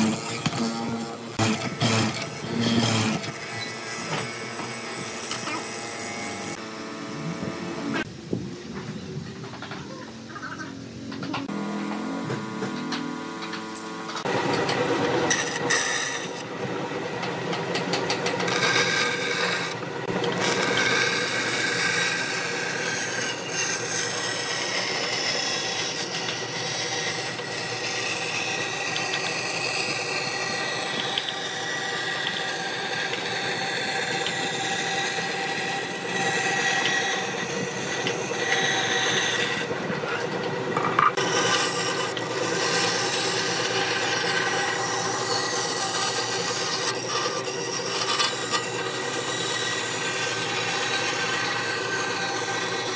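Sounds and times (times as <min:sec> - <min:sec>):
bandsaw blade cutting wood: 0:00.0 - 0:06.7, 0:11.4 - 0:52.9
bandsaw motor hum: 0:00.0 - 0:08.4, 0:10.1 - 0:52.9.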